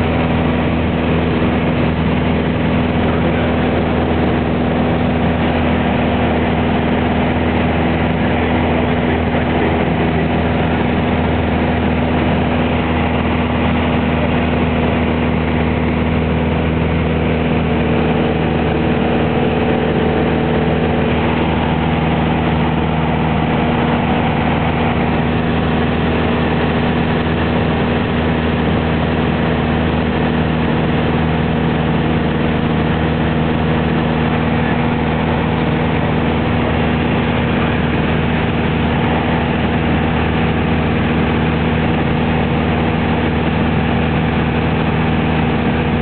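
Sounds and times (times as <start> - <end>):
light aircraft engine and propeller: 0.0 - 46.0.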